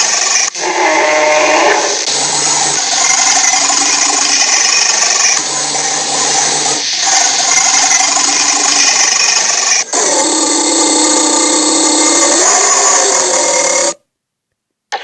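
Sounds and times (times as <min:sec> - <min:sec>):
giant creature grinding rasp: 0:00.0 - 0:14.0.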